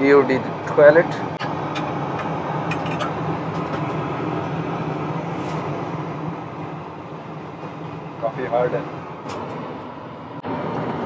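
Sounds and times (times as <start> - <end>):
aircraft cabin drone: 0.0 - 11.0.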